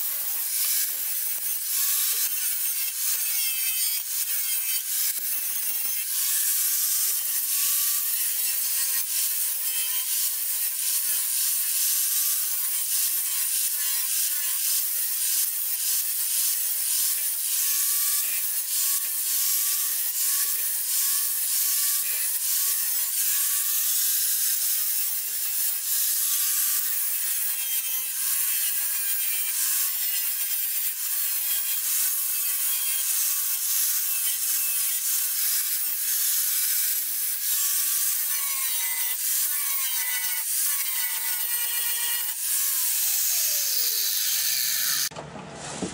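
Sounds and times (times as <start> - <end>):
angle grinder grinding metal: 0.0 - 45.2.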